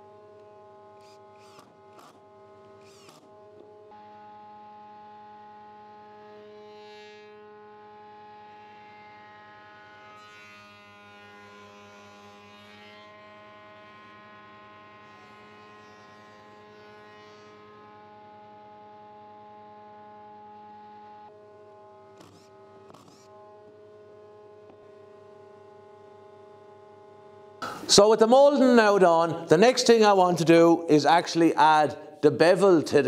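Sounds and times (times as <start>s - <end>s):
wood cutting noise: 0.0s - 32.7s.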